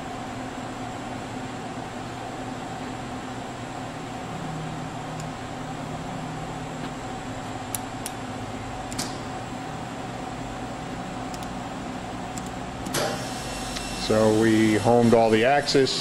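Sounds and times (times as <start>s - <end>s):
machine hum and hiss: 0.0s - 16.0s.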